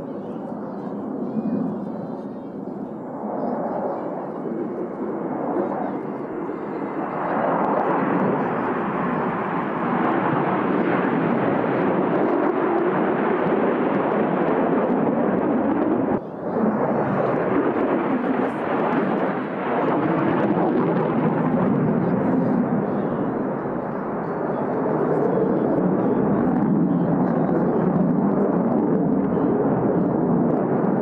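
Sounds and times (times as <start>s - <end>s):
jet engines flying overhead: 0.0s - 31.0s.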